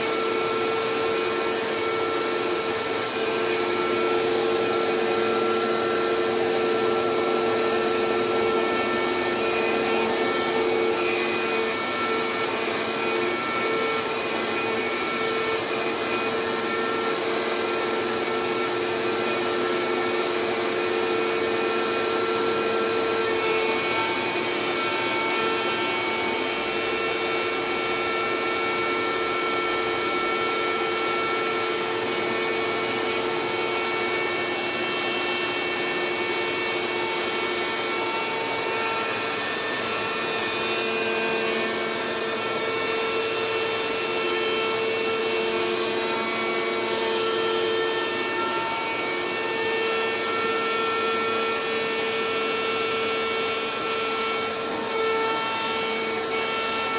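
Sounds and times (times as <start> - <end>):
router motor whine: 0.0 - 56.9.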